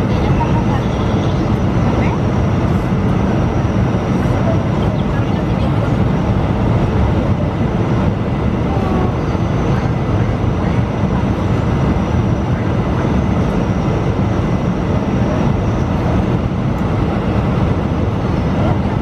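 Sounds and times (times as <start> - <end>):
aircraft cabin engine rush: 0.0 - 19.0.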